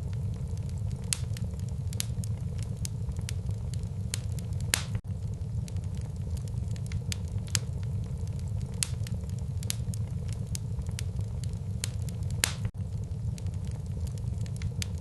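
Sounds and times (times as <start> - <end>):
fire flames rumbling: 0.0 - 15.0
logs crackling and popping: 0.0 - 15.0.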